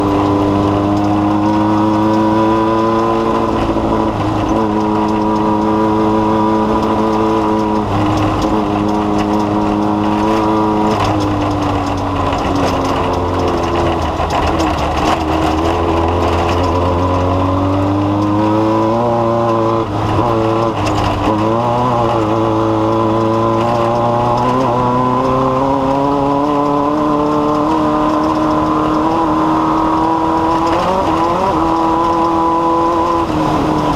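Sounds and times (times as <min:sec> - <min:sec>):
race vehicle engine running hard: 0:00.0 - 0:33.9.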